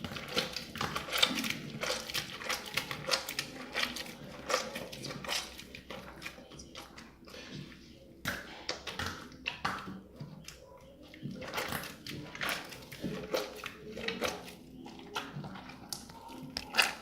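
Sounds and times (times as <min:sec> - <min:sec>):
slime squishing with wet pops: 0:00.0 - 0:17.0.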